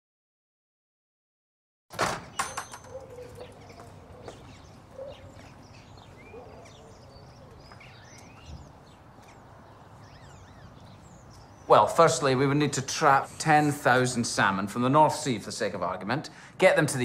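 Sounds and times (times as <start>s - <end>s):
birds chirping: 2.2s - 17.0s.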